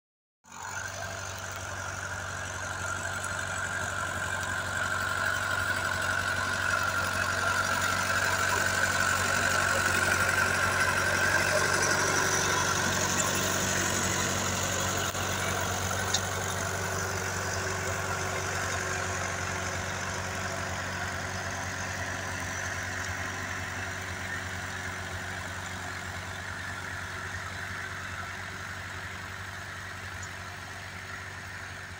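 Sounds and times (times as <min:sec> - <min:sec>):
tractor engine pulling plough: 0:00.5 - 0:31.9.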